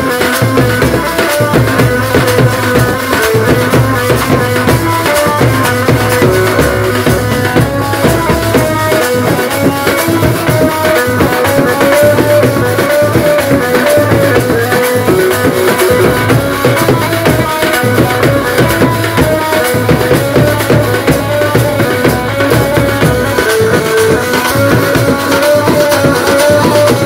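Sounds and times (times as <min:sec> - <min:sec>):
bass drums and side drums: 0:00.0 - 0:27.0
melody of quick notes: 0:00.0 - 0:27.0.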